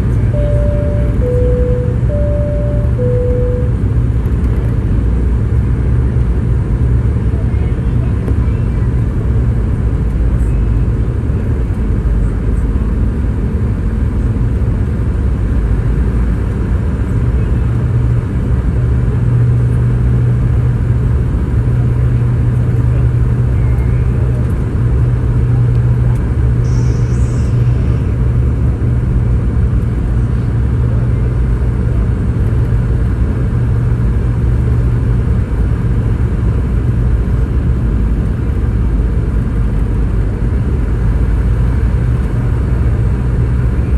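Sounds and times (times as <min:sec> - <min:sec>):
constant low hum: 0:00.0 - 0:43.9
jet engine rumble in cabin: 0:00.0 - 0:43.9.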